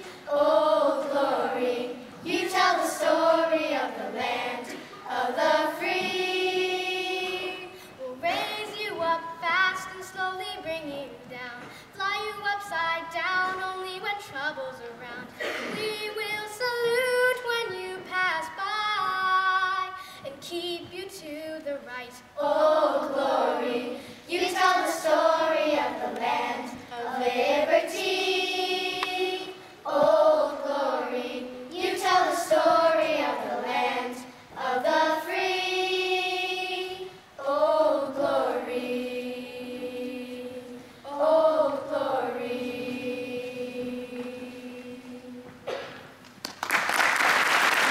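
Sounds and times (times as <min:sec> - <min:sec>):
girls singing together: 0:00.0 - 0:46.1.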